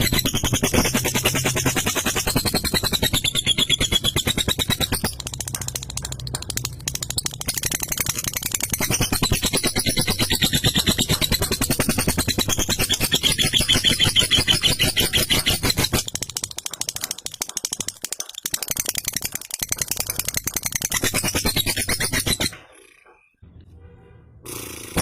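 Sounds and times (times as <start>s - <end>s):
lovebird fast chattering song: 0.0s - 23.4s.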